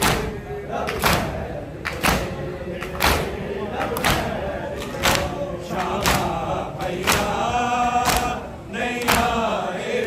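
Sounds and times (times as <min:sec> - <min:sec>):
men slapping chests in unison: 0:00.0 - 0:09.6
men chanting: 0:00.0 - 0:10.0.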